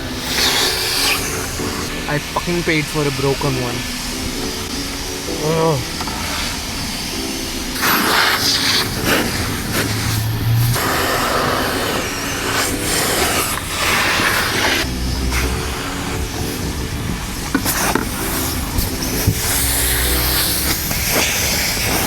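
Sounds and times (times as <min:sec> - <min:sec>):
car wash motor hum: 0:00.0 - 0:22.0
water spray hissing: 0:00.0 - 0:22.0.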